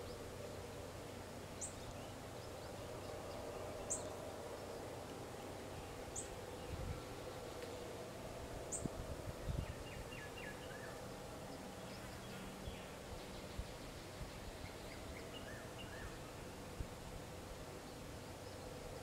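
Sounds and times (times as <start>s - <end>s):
songbirds chirping: 0.0s - 19.0s
steady background hum: 0.0s - 19.0s.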